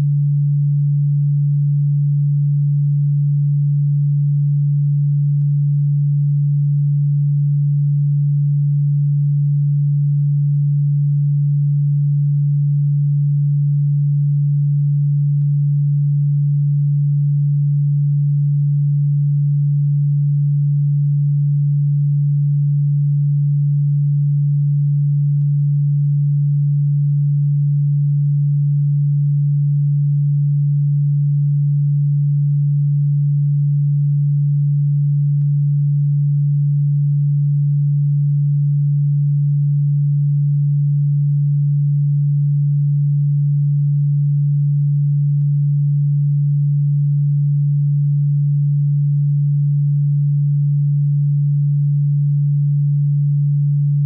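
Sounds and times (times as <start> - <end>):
low sine tone hum: 0.0 - 54.0.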